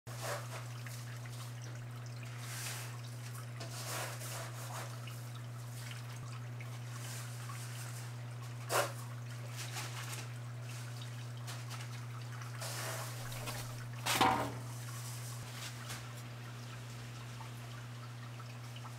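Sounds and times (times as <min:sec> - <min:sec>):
water dripping and trickling: 0:00.1 - 0:18.9.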